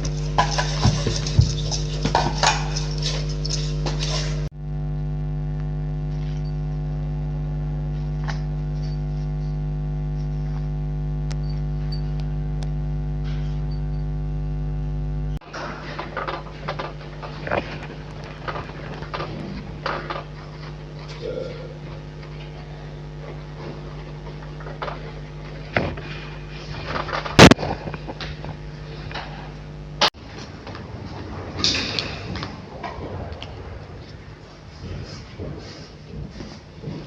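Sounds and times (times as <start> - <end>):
machine electrical hum: 0.0 - 37.0.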